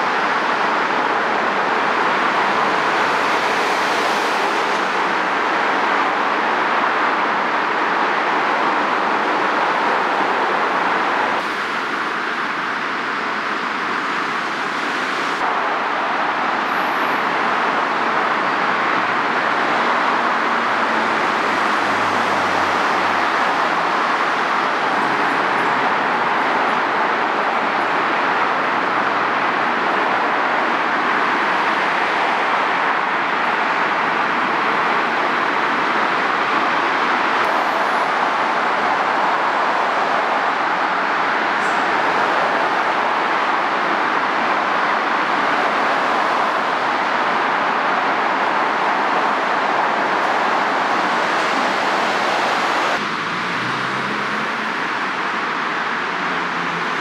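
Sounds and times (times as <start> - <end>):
heavy road traffic: 0.0 - 57.0.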